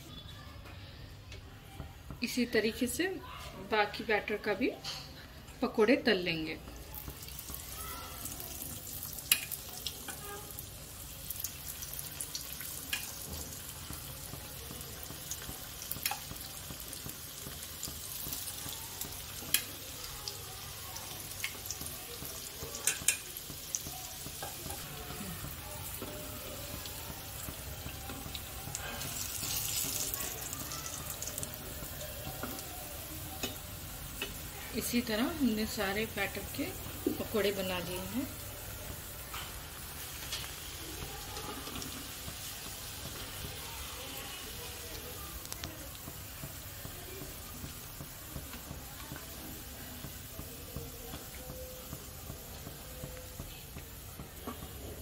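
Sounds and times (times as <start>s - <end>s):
batter deep-frying in hot oil: 0.0s - 55.0s
sharp ticks of frying oil: 5.6s - 55.0s.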